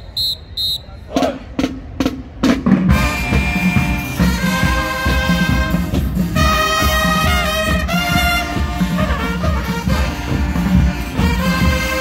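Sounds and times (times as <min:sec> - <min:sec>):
brass chords: 0:01.2 - 0:12.0.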